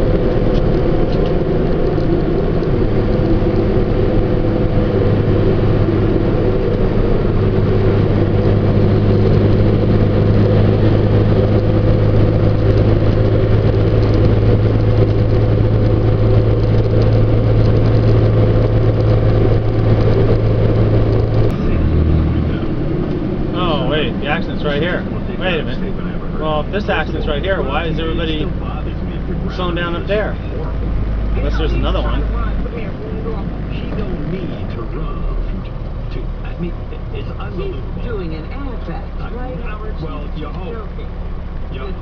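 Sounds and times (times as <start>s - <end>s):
road noise: 0.0s - 42.0s
truck engine humming: 0.0s - 42.0s.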